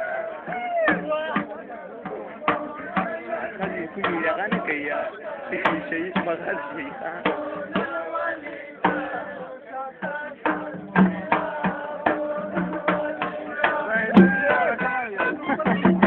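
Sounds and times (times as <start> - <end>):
drum beating: 0.0 - 16.0.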